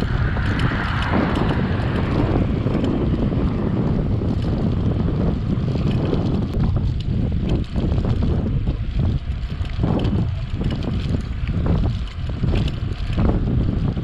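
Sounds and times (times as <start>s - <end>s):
wind buffeting camera microphone: 0.0s - 14.0s.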